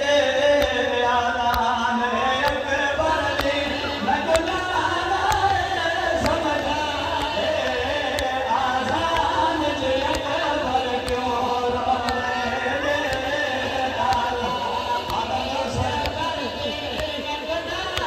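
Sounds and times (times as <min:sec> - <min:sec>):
voices chanting a lament: 0:00.0 - 0:18.0.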